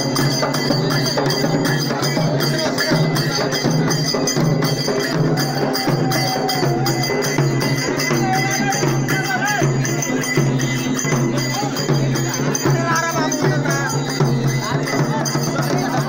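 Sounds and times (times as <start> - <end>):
drums beaten fast: 0.0 - 16.0.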